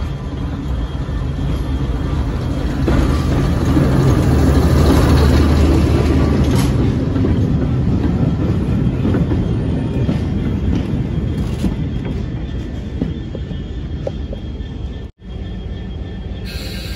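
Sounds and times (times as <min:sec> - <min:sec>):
diesel locomotive passing: 0:00.0 - 0:16.9
train wheels clicking: 0:01.5 - 0:15.1.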